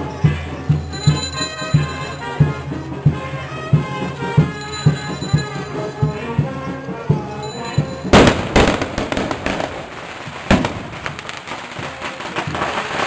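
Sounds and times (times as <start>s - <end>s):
band music: 0.0s - 13.0s
firecrackers banging and crackling: 0.0s - 13.0s.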